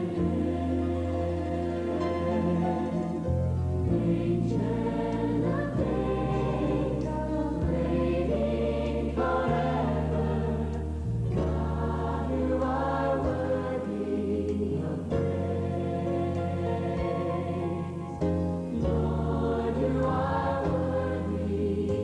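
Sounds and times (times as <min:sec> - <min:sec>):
choir singing slow song: 0:00.0 - 0:22.0
held bass notes: 0:00.0 - 0:22.0.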